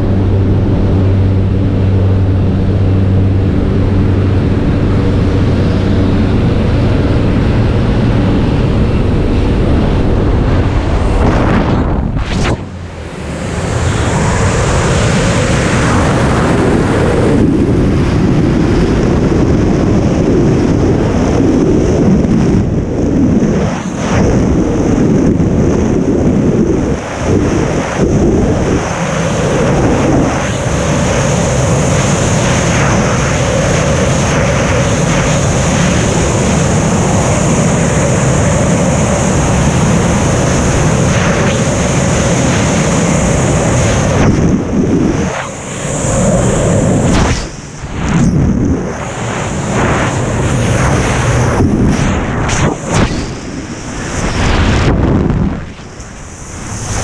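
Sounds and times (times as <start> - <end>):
freefall wind roaring: 0.0 - 57.0.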